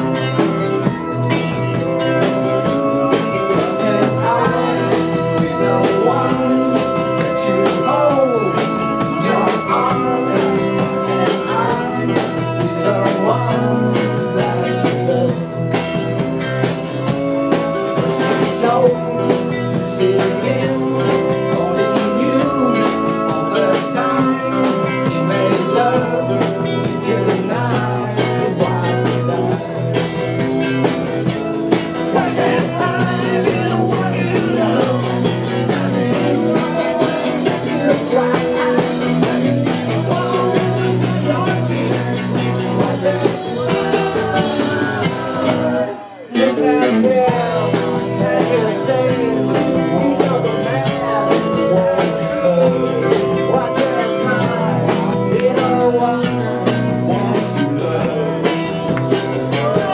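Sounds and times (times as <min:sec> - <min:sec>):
drum kit with cymbals: 0:00.0 - 0:59.9
electric guitars: 0:00.0 - 0:59.9
garage rock band playing: 0:00.0 - 0:59.9
person singing lead vocal: 0:00.0 - 0:59.9.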